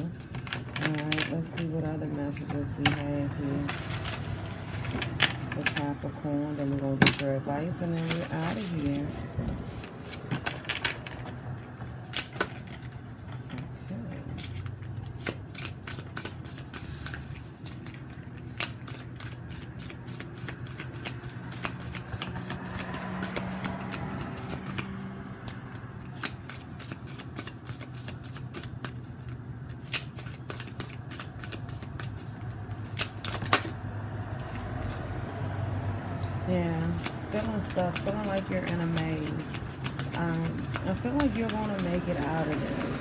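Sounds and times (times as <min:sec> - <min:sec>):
cards being shuffled: 0:02.3 - 0:05.8, 0:07.8 - 0:33.8, 0:34.4 - 0:35.2, 0:36.8 - 0:43.0.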